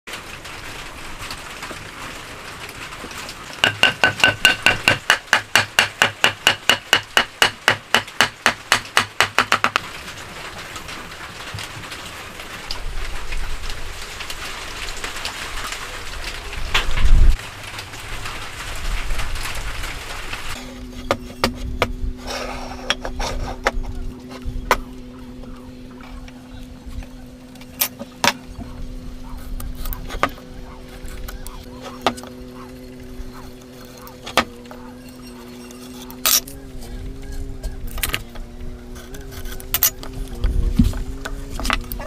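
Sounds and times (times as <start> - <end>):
woodworking noise: 0.1 - 42.0.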